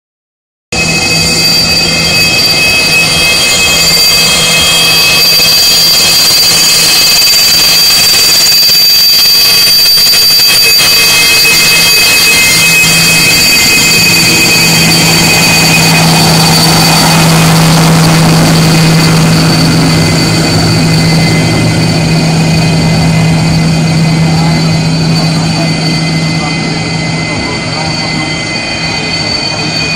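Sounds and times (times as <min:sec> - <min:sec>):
jet engines at taxi power: 0:00.7 - 0:29.9
low hum: 0:00.8 - 0:29.9.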